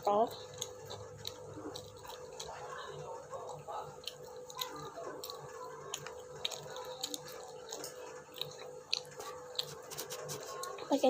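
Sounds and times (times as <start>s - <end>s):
chewing food: 0.0s - 11.0s.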